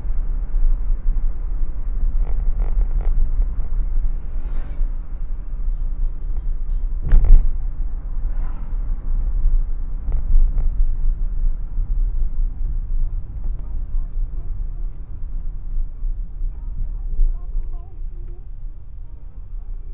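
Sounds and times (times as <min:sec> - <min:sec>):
car cabin road and engine rumble: 0:00.0 - 0:19.9.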